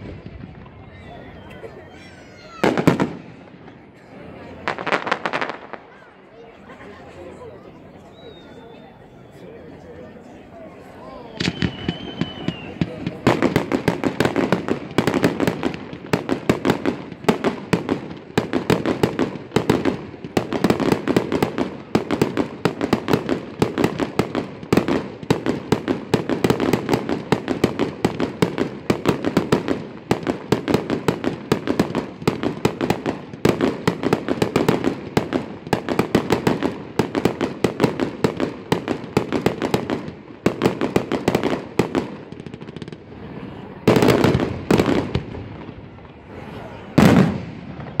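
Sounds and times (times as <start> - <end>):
fireworks bangs and crackles: 0.0 - 6.5, 11.2 - 48.0.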